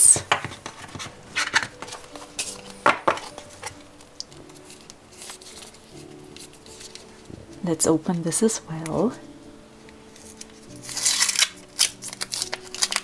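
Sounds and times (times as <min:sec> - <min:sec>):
packaging rustling and crinkling: 0:00.1 - 0:07.6, 0:09.9 - 0:13.0.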